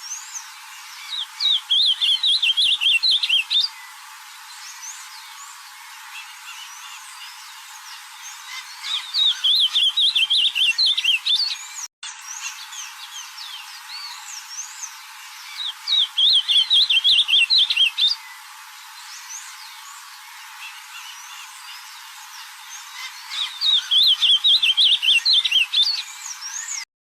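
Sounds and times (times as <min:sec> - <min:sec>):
bird warbling song: 0:00.0 - 0:26.8
faint chirps of other birds: 0:00.0 - 0:26.9.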